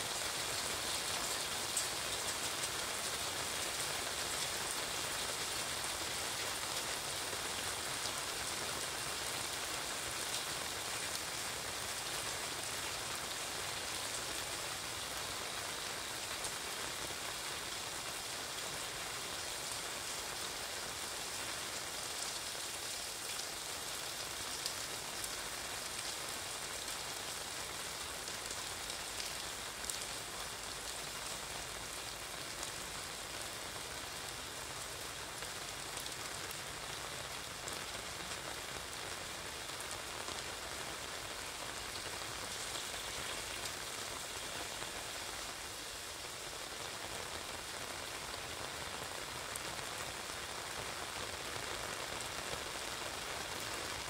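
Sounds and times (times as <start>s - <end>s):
rain on pavement: 0.0s - 54.0s.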